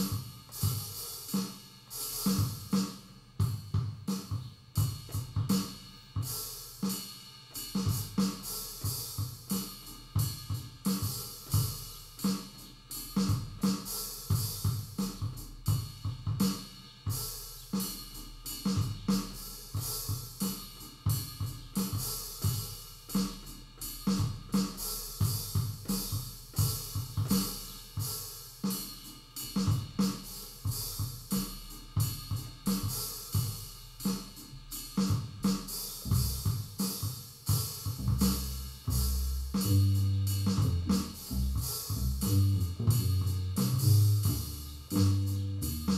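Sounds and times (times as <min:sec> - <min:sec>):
drum groove: 0:00.0 - 0:45.9.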